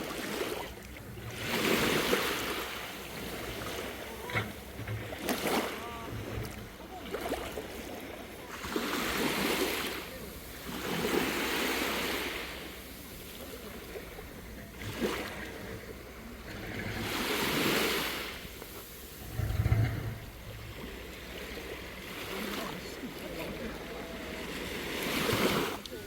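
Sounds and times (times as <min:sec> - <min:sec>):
small sea waves washing: 0:00.0 - 0:26.0.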